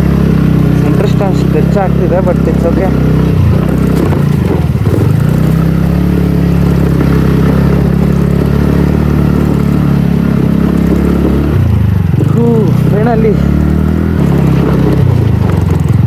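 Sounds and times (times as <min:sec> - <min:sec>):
scooter engine under load: 0:00.0 - 0:16.0.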